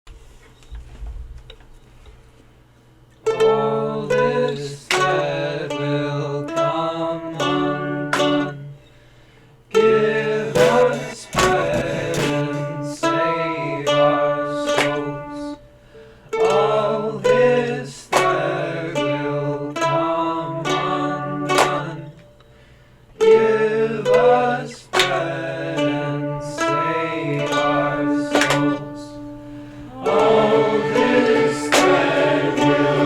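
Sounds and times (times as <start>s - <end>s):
plucked string instrument: 3.2s - 8.8s, 9.7s - 33.0s.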